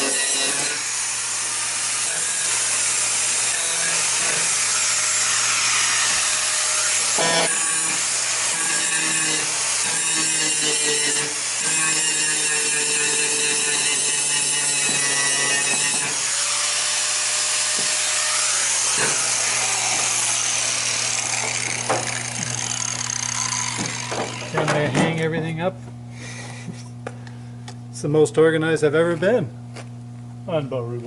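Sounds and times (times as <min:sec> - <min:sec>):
handheld power tool running: 0:00.0 - 0:24.9.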